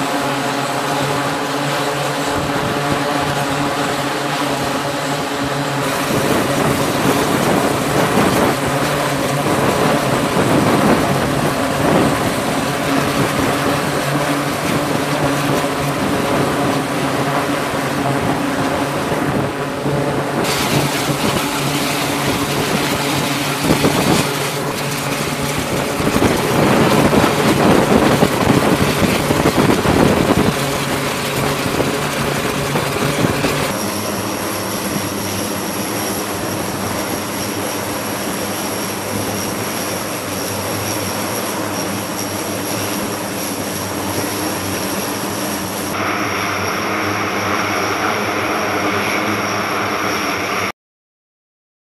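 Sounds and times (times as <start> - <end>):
turboprop engines droning: 0.0 - 50.7.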